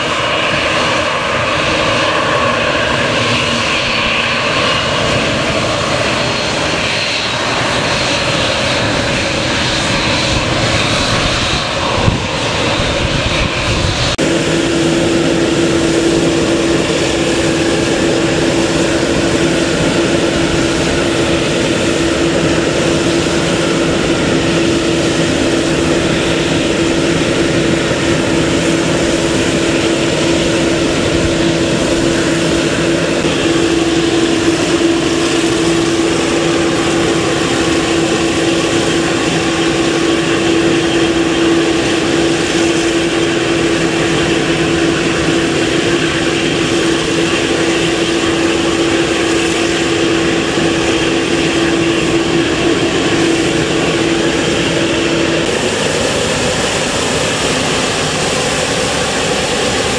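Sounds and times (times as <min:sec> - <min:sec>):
jet engine rushing noise: 0:00.0 - 0:59.9
jet engine whine: 0:00.0 - 0:59.9.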